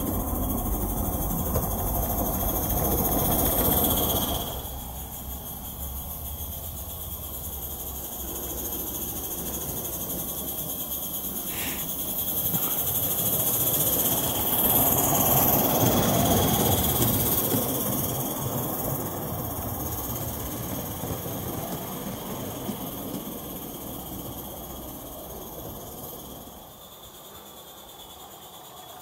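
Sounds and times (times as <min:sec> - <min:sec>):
model steam locomotive exhaust: 0:00.0 - 0:29.0
steady high hiss: 0:00.0 - 0:29.0
wheels on rails: 0:00.0 - 0:29.0.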